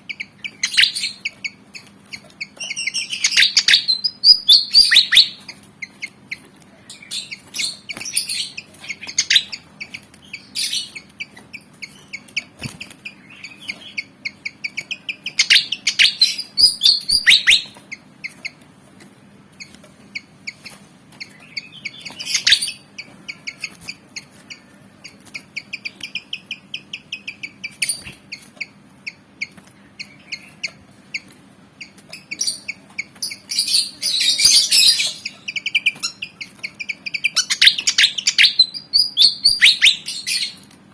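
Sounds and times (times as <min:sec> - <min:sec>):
bird chirping and chattering: 0:00.0 - 0:18.6, 0:19.6 - 0:40.7.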